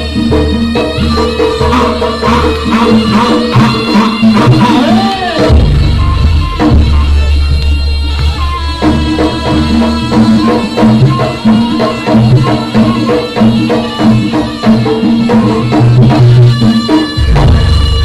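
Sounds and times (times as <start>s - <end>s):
percussion ensemble playing: 0.0s - 18.0s.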